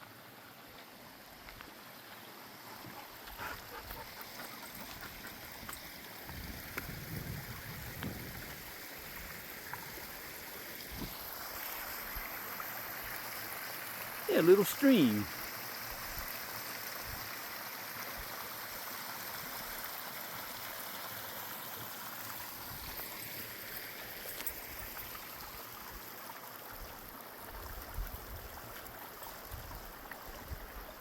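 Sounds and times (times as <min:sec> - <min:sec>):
stream trickling over rocks: 0:00.0 - 0:31.0.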